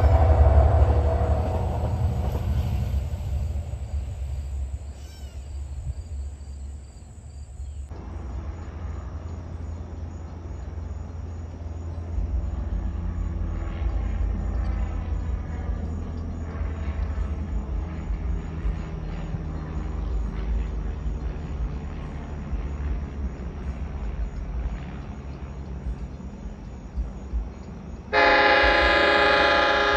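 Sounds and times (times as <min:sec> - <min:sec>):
diesel train rumble: 0:00.0 - 0:29.9
train approaching rumble: 0:00.0 - 0:29.9.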